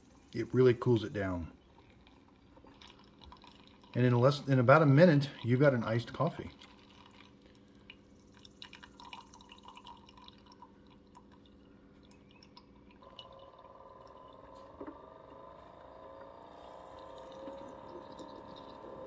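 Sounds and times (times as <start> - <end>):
low machine hum: 0.0 - 19.0
coffee trickling over ice: 0.4 - 19.0
rising tones of filling glass: 1.6 - 19.0.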